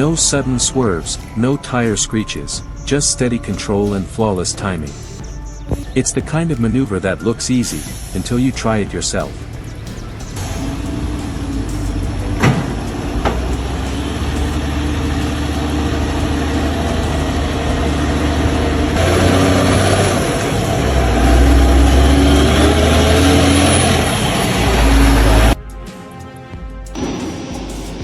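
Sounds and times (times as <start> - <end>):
truck engine running: 0.0 - 25.6.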